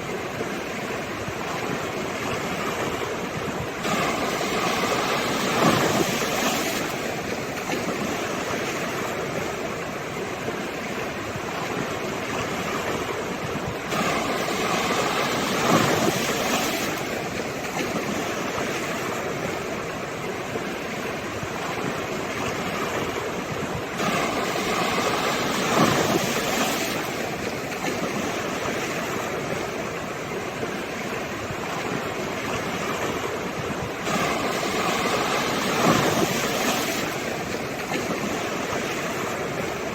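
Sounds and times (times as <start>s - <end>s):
steady rush of surf: 0.0s - 39.9s
waves breaking: 0.0s - 39.9s.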